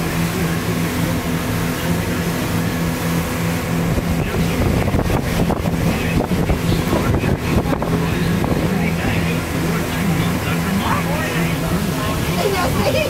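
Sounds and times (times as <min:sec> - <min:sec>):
boat engine humming: 0:00.0 - 0:13.0
wind buffeting microphone: 0:01.0 - 0:13.0.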